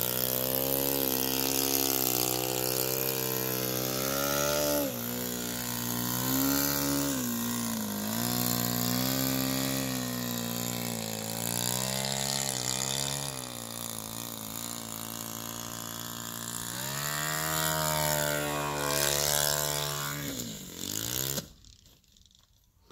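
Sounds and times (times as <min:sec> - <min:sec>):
model plane engine running: 0:00.0 - 0:22.8.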